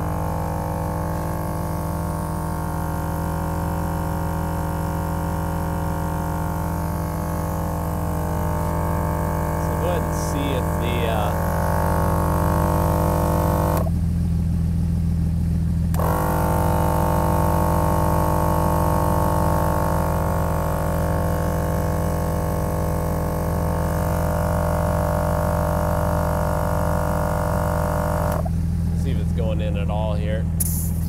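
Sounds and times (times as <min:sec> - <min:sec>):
air compressor running: 0:00.0 - 0:14.0, 0:15.9 - 0:31.0
car engine idling: 0:00.0 - 0:31.0.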